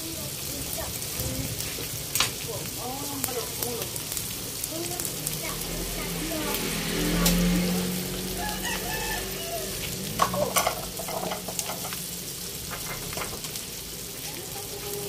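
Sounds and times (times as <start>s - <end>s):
deep-frying sizzle with pops: 0.0s - 15.0s.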